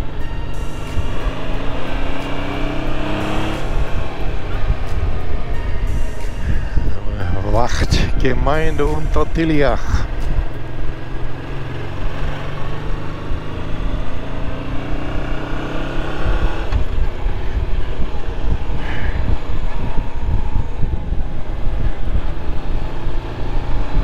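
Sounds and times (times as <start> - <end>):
motorcycle engine: 0.0 - 8.2, 8.8 - 24.0
wind and road noise: 0.0 - 24.0.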